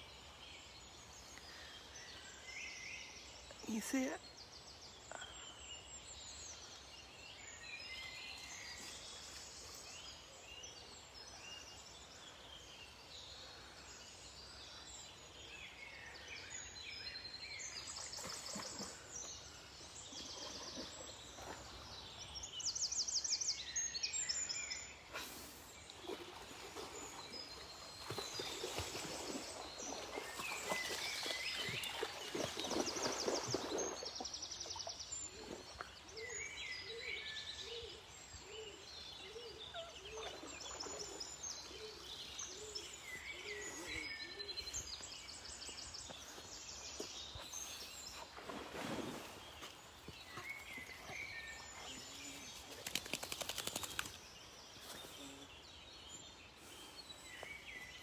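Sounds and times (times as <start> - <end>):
small birds singing: 0.0 - 58.0.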